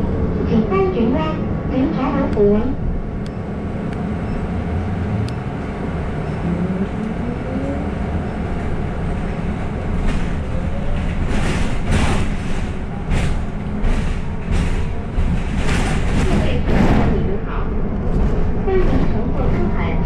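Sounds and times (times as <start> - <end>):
bus engine rumble and whine: 0.0 - 20.0.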